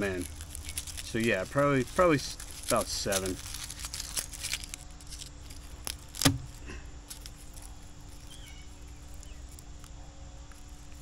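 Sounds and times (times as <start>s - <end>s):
garlic skins crackling: 0.0s - 11.0s.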